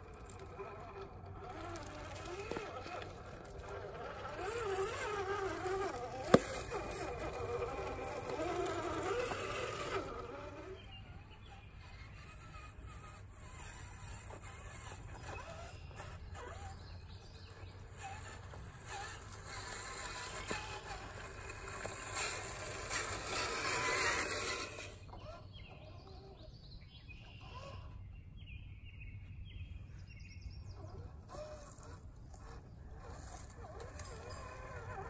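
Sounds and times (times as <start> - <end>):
electric motor and gears whining: 0.0 - 28.0, 30.7 - 35.0.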